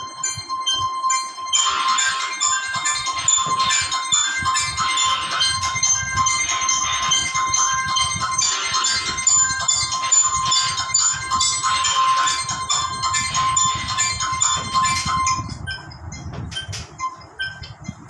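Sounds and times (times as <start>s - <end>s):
bell-like chimes: 0.0s - 17.7s
steady high tone: 0.0s - 18.0s.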